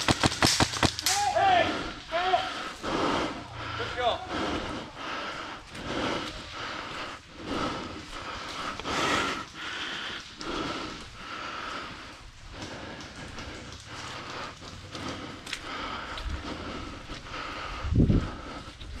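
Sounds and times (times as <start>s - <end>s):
person breathing: 1.6s - 19.0s.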